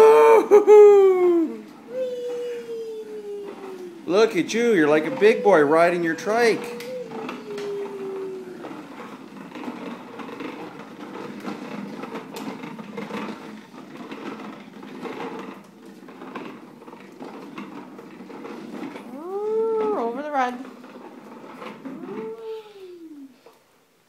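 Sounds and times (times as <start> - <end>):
tricycle wheels rolling on wood floor: 0.0 - 24.0
small irregular clicks: 1.7 - 23.6.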